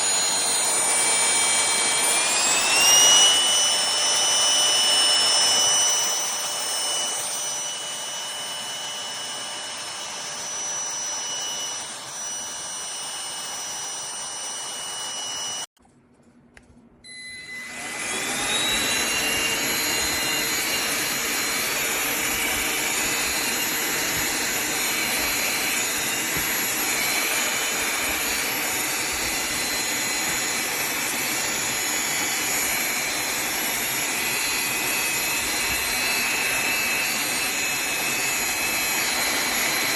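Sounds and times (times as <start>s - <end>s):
handheld vacuum cleaner whirring: 0.0s - 15.7s, 17.1s - 39.9s.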